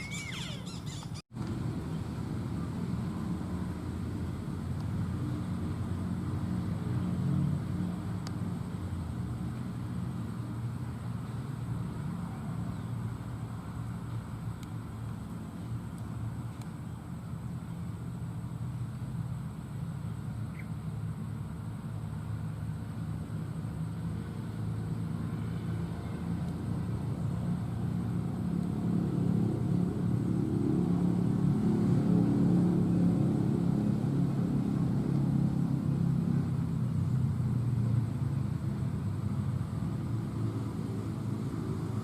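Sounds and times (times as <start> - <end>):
distant vehicle engine rumble: 0.0 - 42.0.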